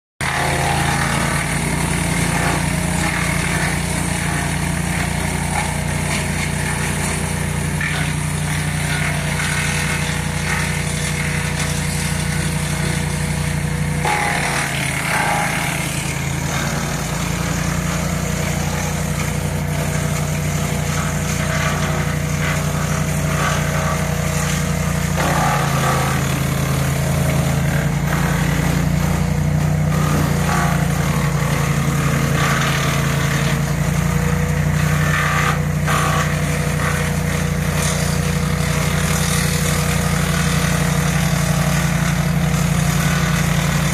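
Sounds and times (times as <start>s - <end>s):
wood chipper engine running: 0.2s - 43.9s.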